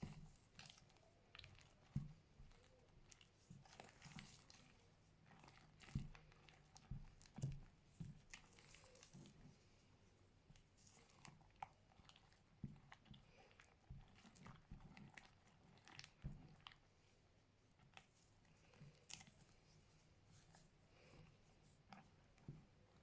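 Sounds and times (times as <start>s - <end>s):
hands squishing slime: 0.0s - 9.6s, 10.5s - 16.9s, 17.8s - 23.0s.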